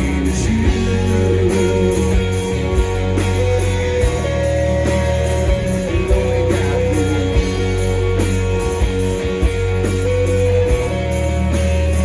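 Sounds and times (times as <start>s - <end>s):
country-rock band playing: 0.0s - 12.0s.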